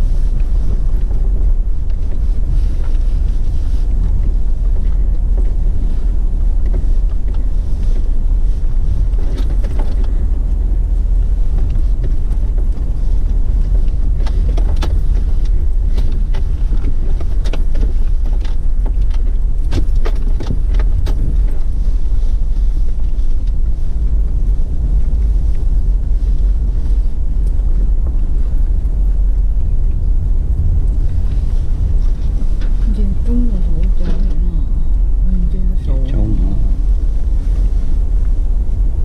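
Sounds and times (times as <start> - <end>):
vehicle engine rumble: 0.0 - 39.0.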